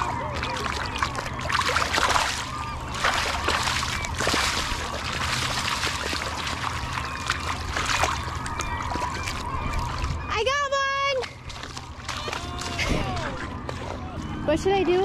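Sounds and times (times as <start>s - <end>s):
fish splashing in shallow water: 0.0s - 14.2s.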